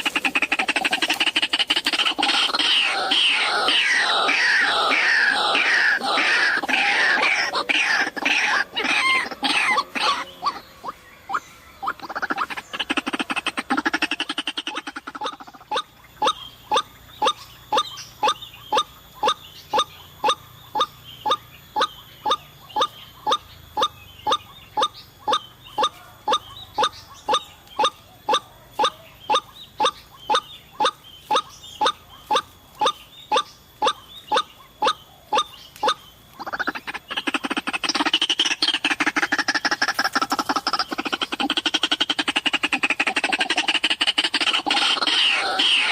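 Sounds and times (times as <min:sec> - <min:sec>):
waterhen calls: 0:00.0 - 0:45.9.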